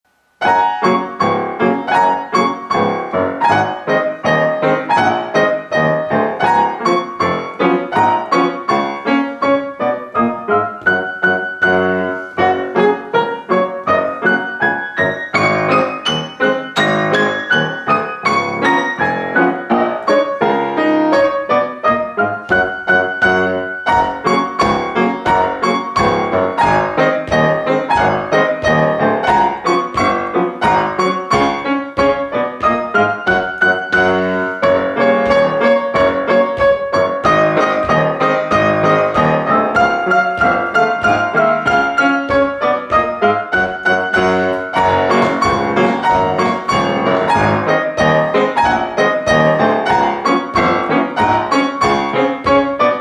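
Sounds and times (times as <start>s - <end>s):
piano music: 0.2s - 53.0s.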